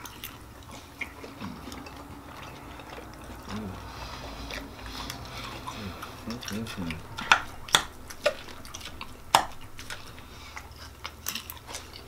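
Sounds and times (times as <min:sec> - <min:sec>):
chewing: 0:00.0 - 0:12.0
short low hum: 0:01.3 - 0:11.1.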